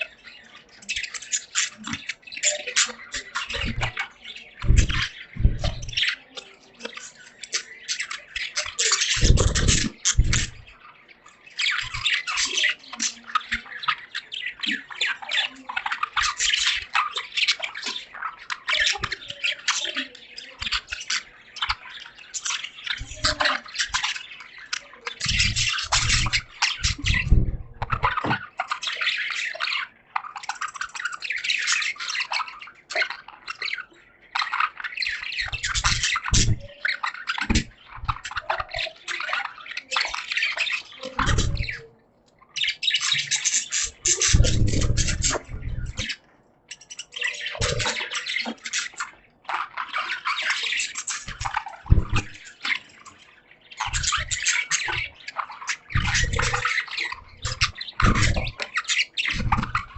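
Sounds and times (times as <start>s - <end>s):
budgerigars chattering and chirping: 0.0s - 59.9s.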